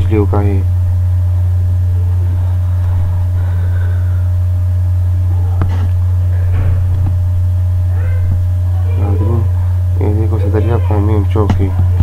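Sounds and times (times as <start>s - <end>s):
loud steady low hum: 0.0s - 12.0s.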